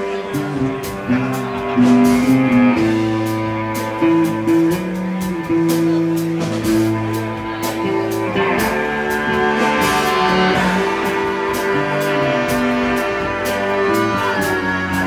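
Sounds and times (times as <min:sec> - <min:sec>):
big band playing live: 0:00.0 - 0:15.0
horns holding long notes: 0:00.0 - 0:15.0.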